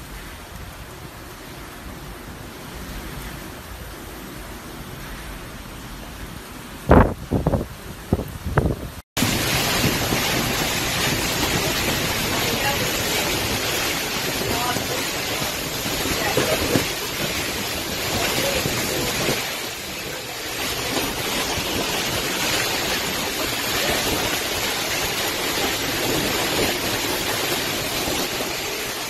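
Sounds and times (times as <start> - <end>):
heavy rain: 0.0 - 29.0
hurricane wind: 0.0 - 29.0.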